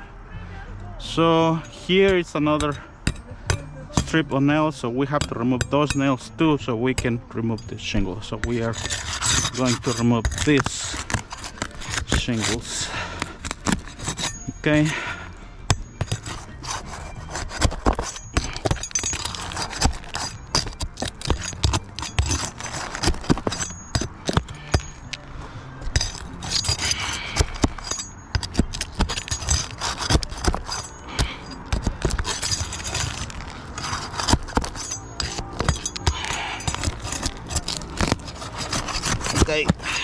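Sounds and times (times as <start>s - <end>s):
metal pry tool scraping: 1.2s - 40.0s.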